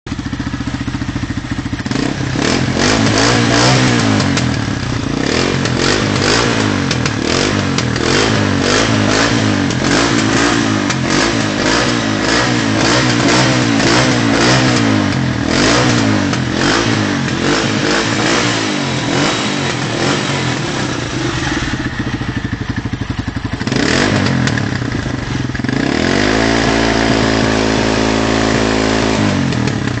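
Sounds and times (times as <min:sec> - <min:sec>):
motorcycle engine revving: 0:00.1 - 0:30.0.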